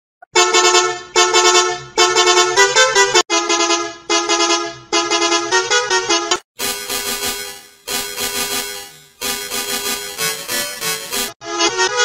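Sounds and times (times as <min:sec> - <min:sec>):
coach horn tooting: 0:00.4 - 0:12.0.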